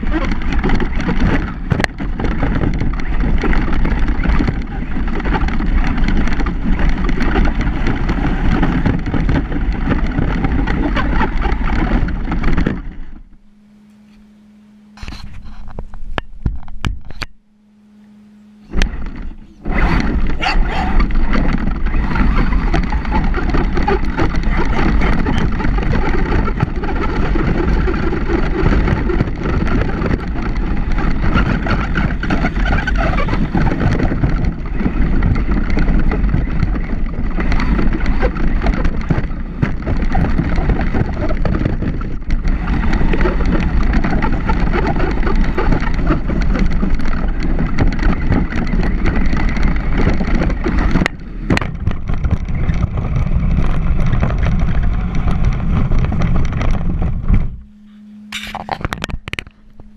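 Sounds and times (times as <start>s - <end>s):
wind on microphone: 0.0s - 14.2s, 18.5s - 59.9s
low hum: 0.0s - 59.9s
rc truck rumbling over rough ground: 0.0s - 59.9s.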